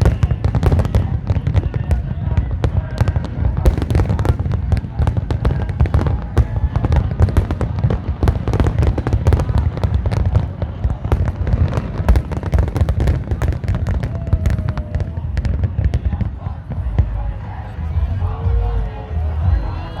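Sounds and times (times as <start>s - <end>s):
fireworks bangs and cracks: 0.0s - 17.6s.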